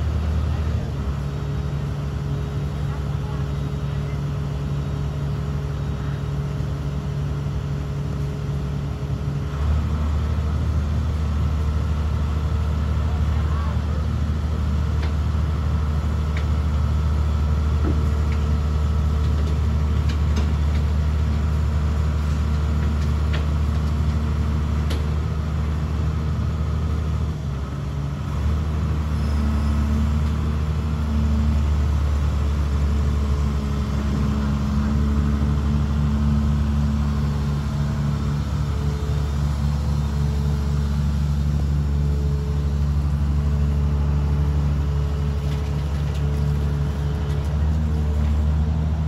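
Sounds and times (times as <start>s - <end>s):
excavator diesel engine droning: 0.0s - 49.0s.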